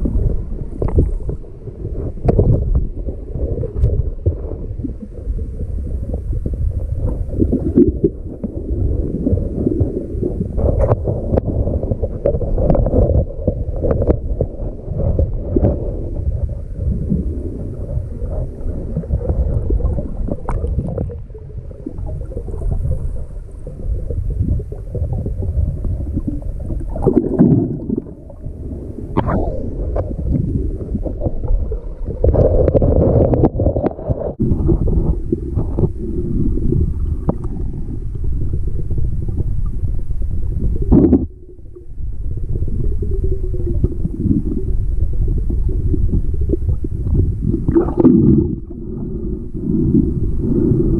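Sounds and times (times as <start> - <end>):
underwater rumbling and gurgling: 0.0 - 50.9.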